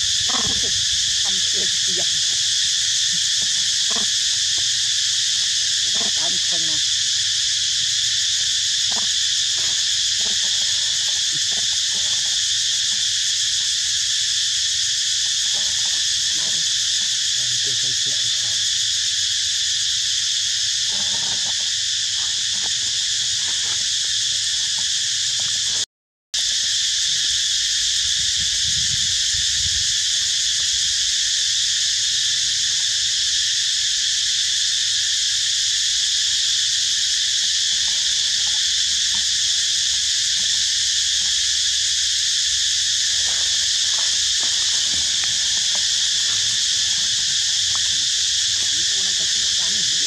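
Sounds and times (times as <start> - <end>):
high-pitched insect chorus: 0.0 - 25.8, 26.4 - 50.0.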